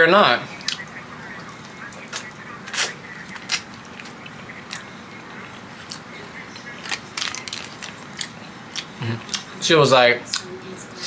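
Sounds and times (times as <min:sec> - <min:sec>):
chewing with wet mouth smacks: 0:00.6 - 0:09.6.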